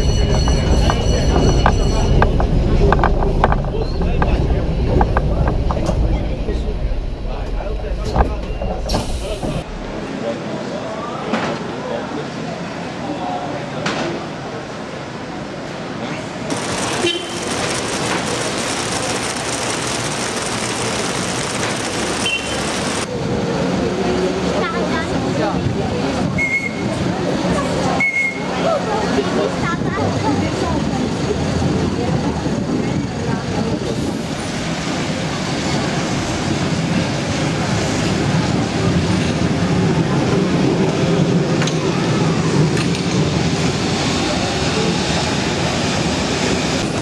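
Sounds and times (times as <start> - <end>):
tram car running on track: 0.0 - 47.0.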